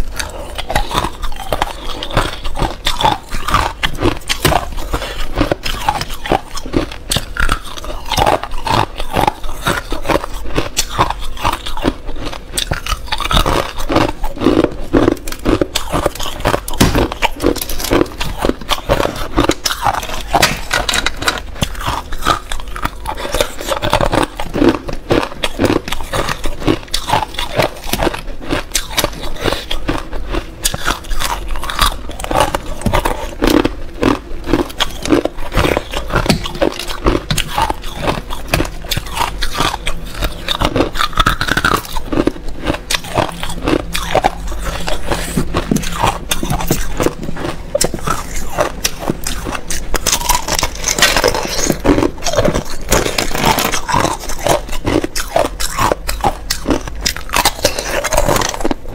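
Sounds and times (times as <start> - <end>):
ice being chewed: 0.0 - 58.9.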